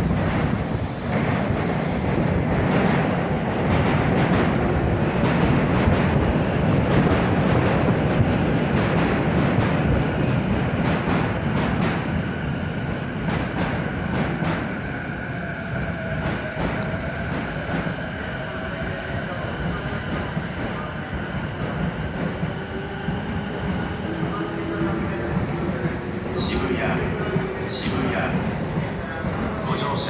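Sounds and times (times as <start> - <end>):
electric train running on rails: 0.0 - 30.0.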